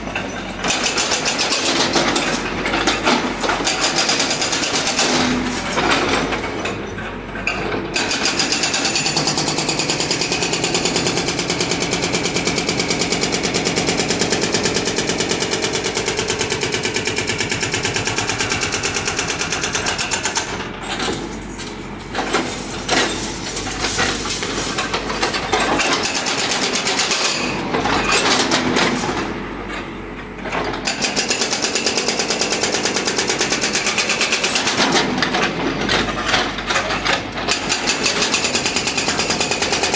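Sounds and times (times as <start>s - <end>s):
hydraulic breaker hammering masonry: 0.0s - 29.4s, 30.4s - 39.9s.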